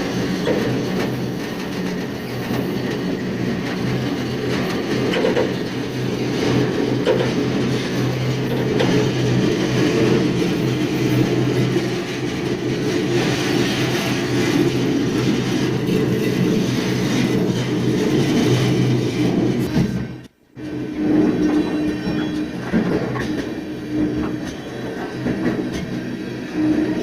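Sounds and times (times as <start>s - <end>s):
freight train rumbling and rattling: 0.0s - 27.0s.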